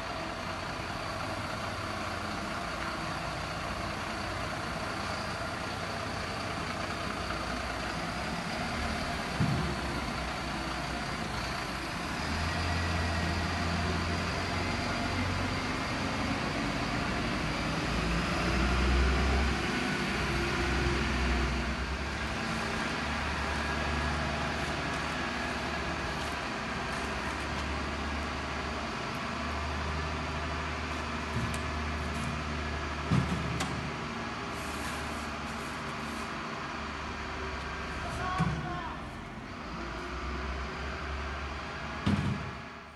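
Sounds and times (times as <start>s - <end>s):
diesel truck engine rumbling: 0.0s - 42.9s.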